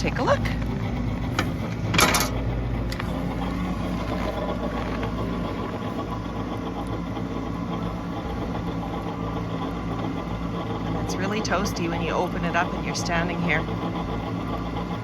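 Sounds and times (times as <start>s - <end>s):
wood furnace humming: 0.0s - 15.0s.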